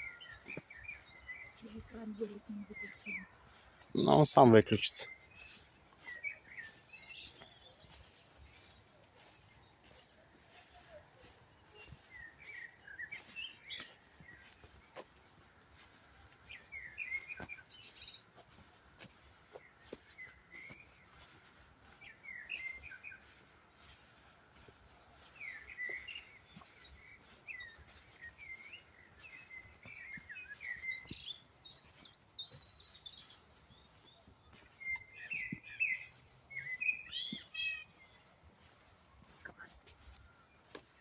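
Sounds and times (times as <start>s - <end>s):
songbirds chirping and warbling: 0.0s - 41.0s.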